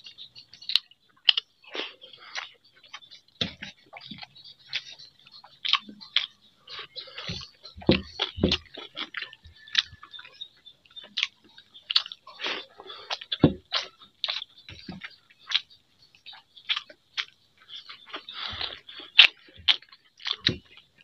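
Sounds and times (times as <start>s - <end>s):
chewing and lip smacks: 0.0s - 21.0s.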